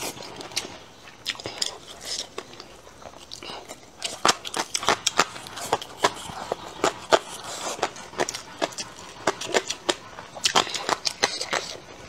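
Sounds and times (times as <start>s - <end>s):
chewing with wet smacks and crunches: 0.0s - 12.0s.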